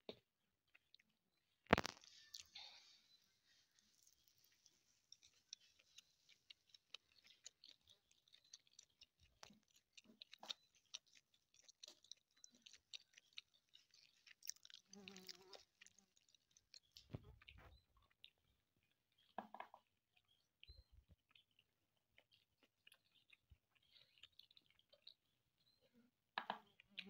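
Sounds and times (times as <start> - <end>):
person chewing: 0.1 - 27.0.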